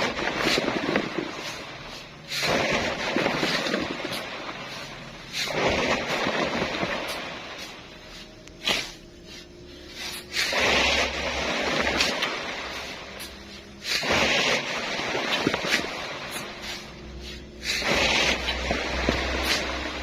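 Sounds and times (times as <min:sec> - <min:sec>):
sand thrown into truck bed: 0:00.0 - 0:20.0.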